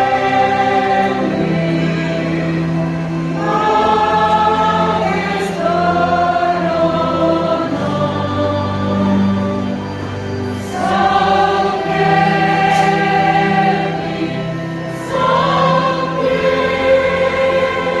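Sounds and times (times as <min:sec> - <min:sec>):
choir singing held chords: 0:00.0 - 0:18.0.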